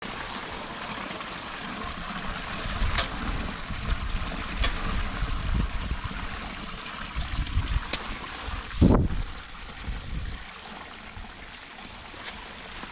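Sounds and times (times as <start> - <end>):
storm water rushing: 0.0 - 12.1.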